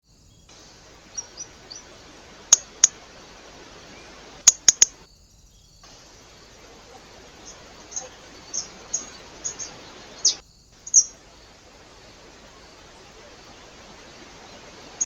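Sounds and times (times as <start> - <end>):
small birds chirping: 0.0 - 15.0
steady hiss: 0.0 - 15.0.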